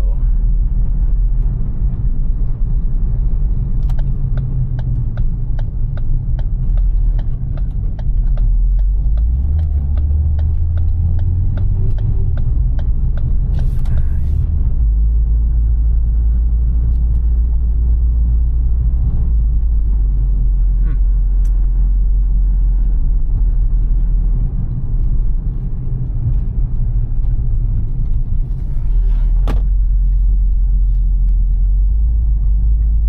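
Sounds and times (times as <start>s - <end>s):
car engine and road drone: 0.0s - 33.0s.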